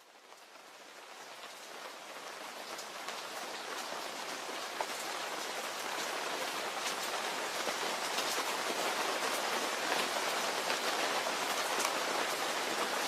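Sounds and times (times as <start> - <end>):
raindrops hitting close by: 0.0 - 13.0
steady rain: 0.0 - 13.0.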